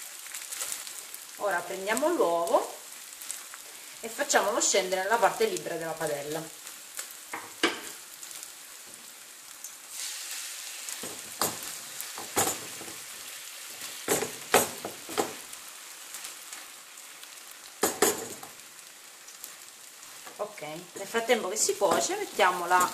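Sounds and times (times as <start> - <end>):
egg sizzling in frying pan: 0.0 - 22.9.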